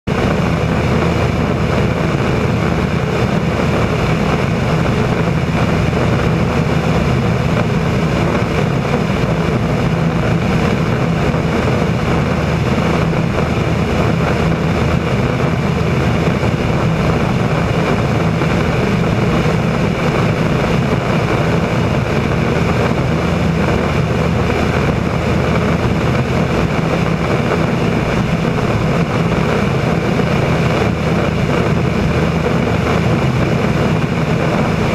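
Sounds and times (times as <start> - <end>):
propeller airplane engine drone: 0.0 - 34.9.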